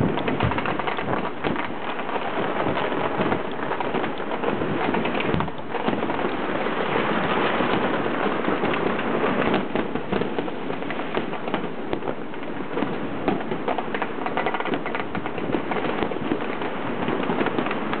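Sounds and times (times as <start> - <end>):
fireworks and firecrackers crackling: 0.0 - 18.0.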